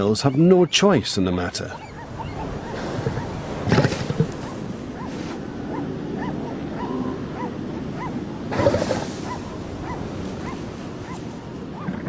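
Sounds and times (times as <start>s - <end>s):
elephant seals yelping: 0.0s - 12.0s
surf washing: 0.0s - 12.0s.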